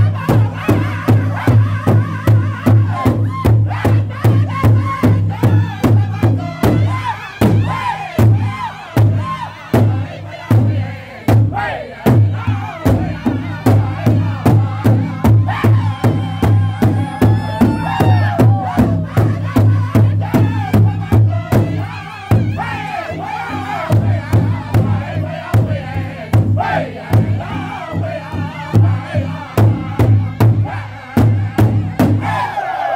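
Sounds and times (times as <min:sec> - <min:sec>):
large drum beating: 0:00.0 - 0:32.4
men singing high-pitched in unison: 0:00.0 - 0:32.9.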